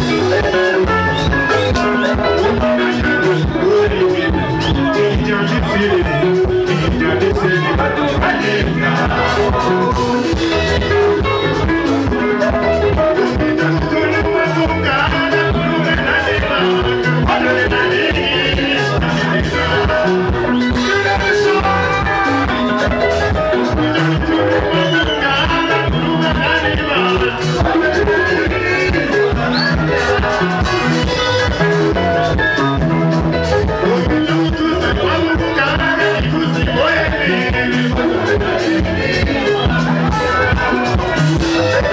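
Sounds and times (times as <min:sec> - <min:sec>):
bass guitar: 0:00.0 - 0:41.9
drum kit steady beat: 0:00.0 - 0:41.9
electric guitars: 0:00.0 - 0:41.9
live band dance music: 0:00.0 - 0:41.9
man singing into microphone: 0:00.0 - 0:41.9.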